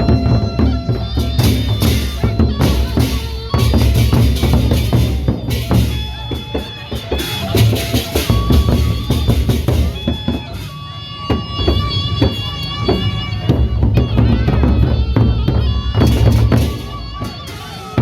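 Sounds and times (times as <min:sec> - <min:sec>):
pounding drums: 0:00.0 - 0:18.0
reed instrument high notes: 0:00.0 - 0:18.0.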